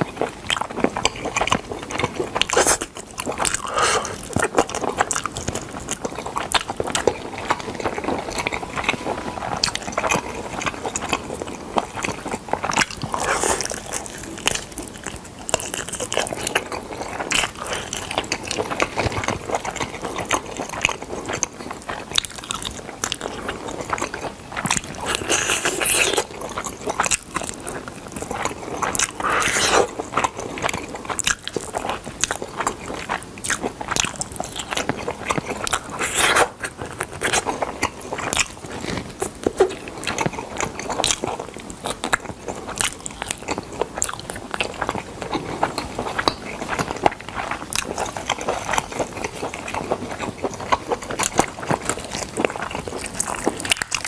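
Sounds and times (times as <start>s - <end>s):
chicken being chewed: 0.0s - 54.0s.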